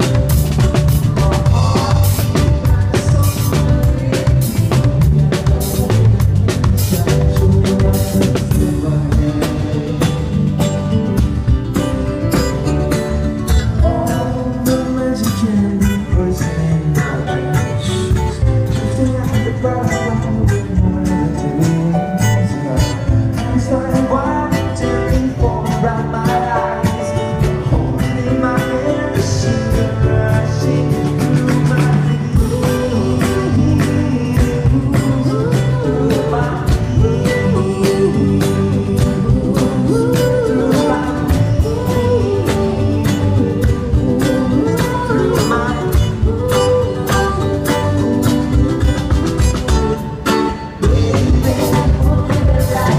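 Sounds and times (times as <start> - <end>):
acoustic guitar strumming: 0.0 - 52.9
bass: 0.0 - 52.9
drum kit beat: 0.0 - 52.9
keyboard: 0.0 - 52.9.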